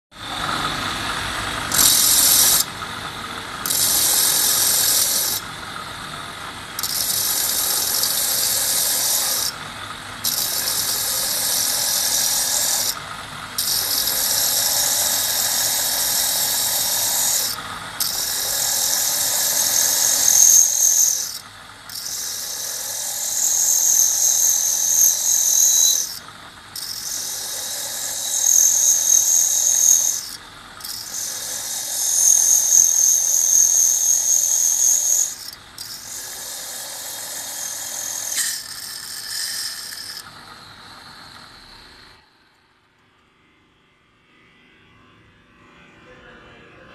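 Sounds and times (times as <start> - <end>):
thin high whine: 0.1 - 26.2, 26.8 - 42.9
drill grinding into glass: 0.2 - 2.7, 3.6 - 5.5, 6.8 - 9.6, 10.2 - 13.0, 13.6 - 42.1
drill motor running: 0.2 - 42.4.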